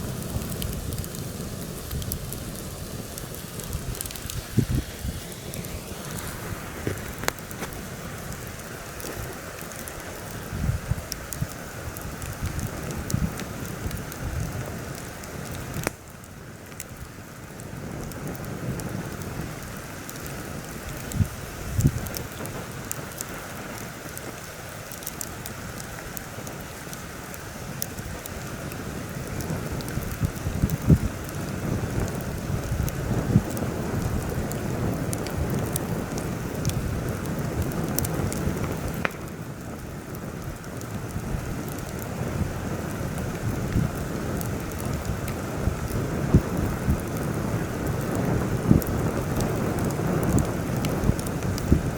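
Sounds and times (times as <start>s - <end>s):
wind buffeting microphone: 0.0s - 26.7s, 27.4s - 51.9s
campfire crackling and popping: 0.0s - 51.9s.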